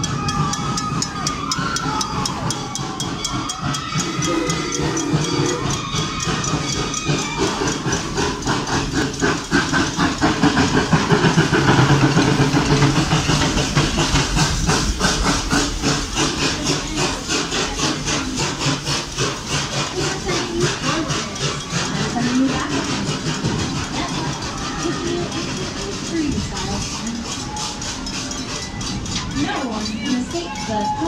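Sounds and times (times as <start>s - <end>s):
train engine running with hiss: 0.0s - 31.0s
train wheels clattering: 0.0s - 31.0s.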